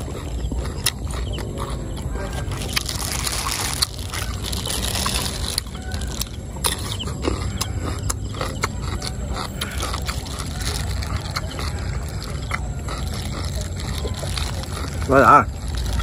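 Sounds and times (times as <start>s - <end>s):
low rumble: 0.0s - 16.0s
person chewing cucumber: 0.0s - 16.0s.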